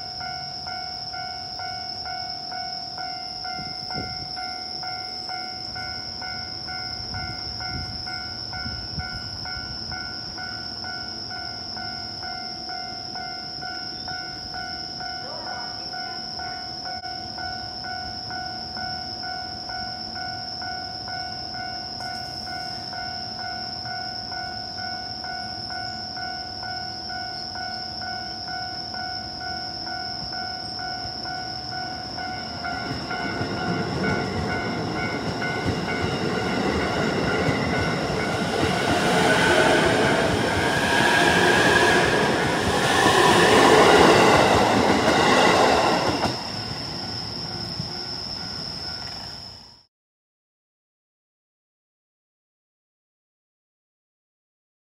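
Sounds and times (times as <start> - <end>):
level crossing warning bell: 0.0 - 49.2
electric train passing: 0.0 - 49.8.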